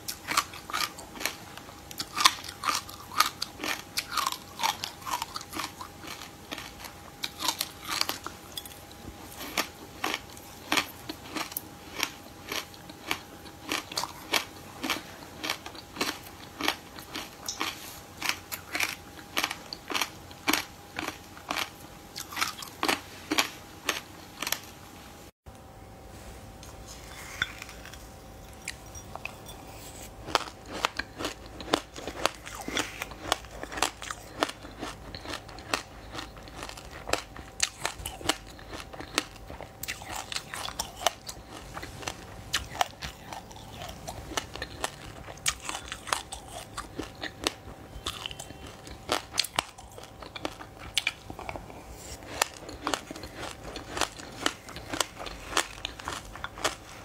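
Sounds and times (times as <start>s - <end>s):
crunching and chewing seeds: 0.0s - 24.8s, 26.6s - 57.0s
faint steady hum: 0.0s - 57.0s.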